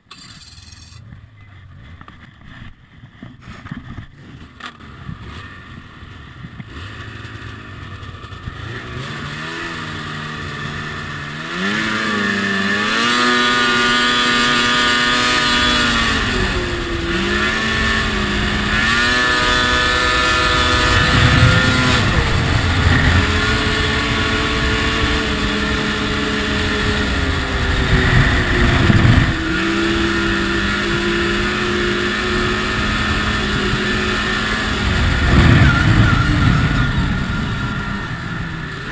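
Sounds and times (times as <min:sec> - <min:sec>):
snowmobile engine: 0:00.0 - 0:01.0, 0:01.6 - 0:38.9.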